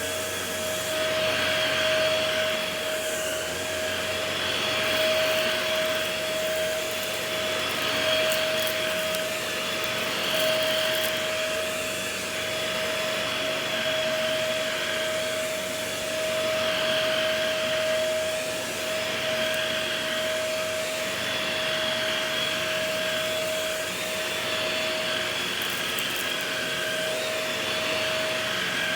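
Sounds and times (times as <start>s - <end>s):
vacuum cleaner on carpet: 0.0s - 28.9s.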